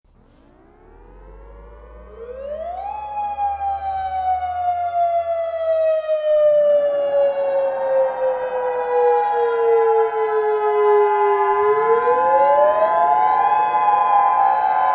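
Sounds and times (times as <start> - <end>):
civil defense siren wailing: 0.1 - 14.9
second siren: 0.1 - 14.9.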